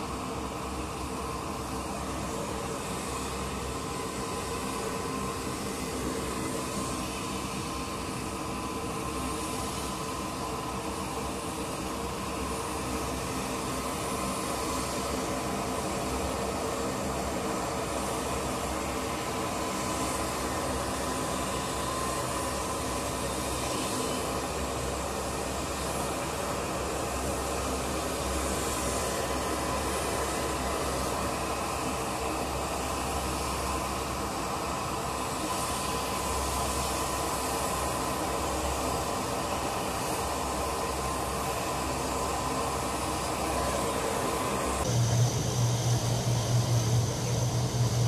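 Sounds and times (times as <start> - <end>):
high turbine whine: 0.0 - 48.0
propeller drone: 0.0 - 48.0.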